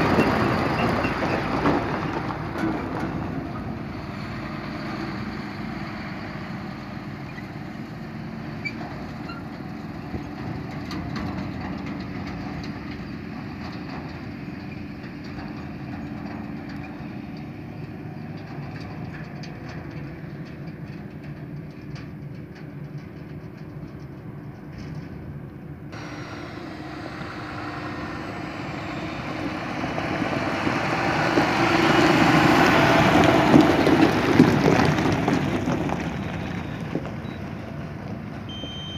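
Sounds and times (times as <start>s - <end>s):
distant farm machinery engines: 0.0s - 38.9s
tractor driving past: 0.0s - 38.9s
tyres on gravel: 0.0s - 38.9s.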